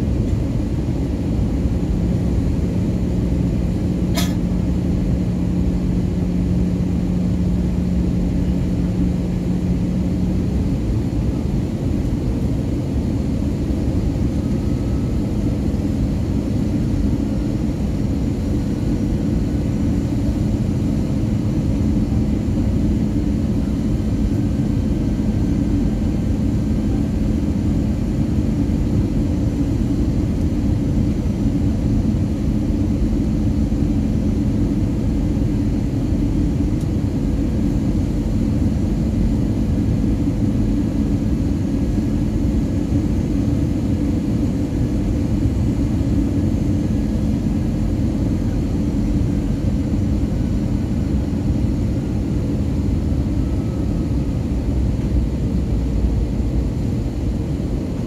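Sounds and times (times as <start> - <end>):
aircraft cabin engine rumble: 0.0 - 58.0
low steady hum: 0.0 - 58.0.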